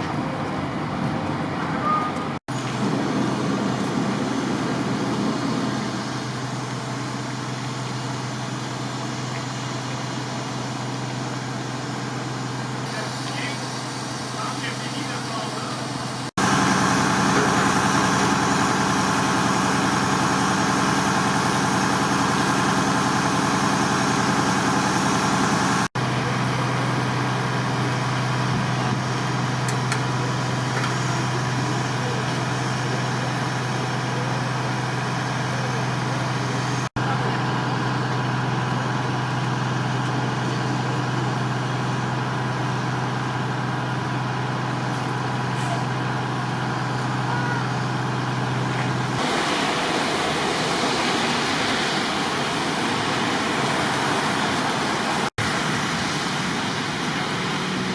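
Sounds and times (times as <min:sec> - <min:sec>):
fire truck engine running: 0:00.0 - 0:57.9.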